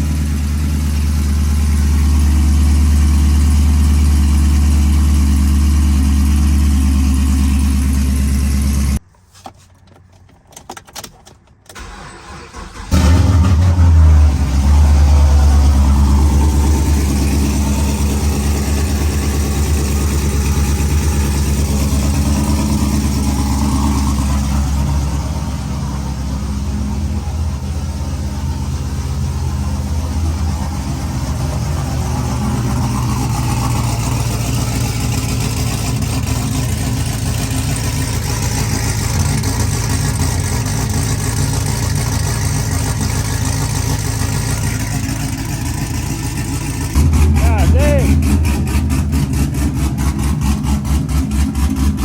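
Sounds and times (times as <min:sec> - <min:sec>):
car engine restarting: 0:00.0 - 0:09.0, 0:10.1 - 0:52.0
car engine running: 0:00.0 - 0:09.0, 0:11.7 - 0:52.0.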